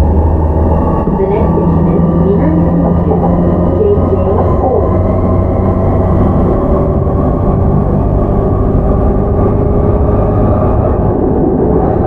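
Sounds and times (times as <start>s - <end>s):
train motor hum: 0.0s - 12.0s
train wheels rumbling on track: 0.0s - 12.0s.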